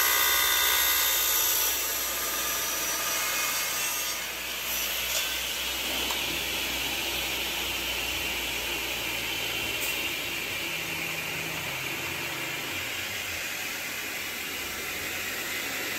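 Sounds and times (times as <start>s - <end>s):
circular saw whirring: 0.0s - 15.9s.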